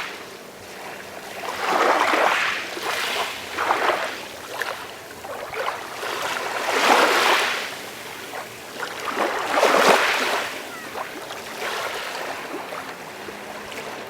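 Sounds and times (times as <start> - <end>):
sea waves washing onto shore: 0.0 - 14.0.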